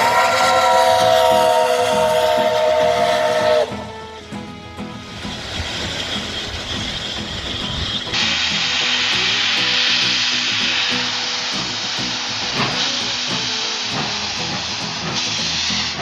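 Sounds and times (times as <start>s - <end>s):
background music: 0.0s - 16.0s
steam locomotive hissing: 0.0s - 16.0s.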